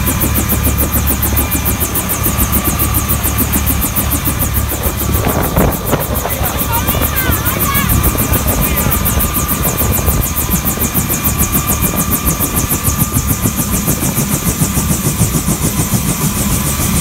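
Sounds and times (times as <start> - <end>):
helicopter rotor beat: 0.0 - 17.0
turbine whine: 0.0 - 17.0.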